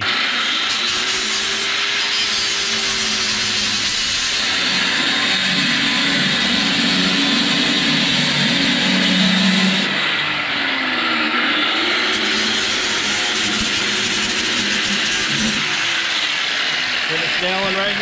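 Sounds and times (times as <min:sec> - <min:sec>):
angle grinder cutting wire mesh: 0:00.0 - 0:18.0.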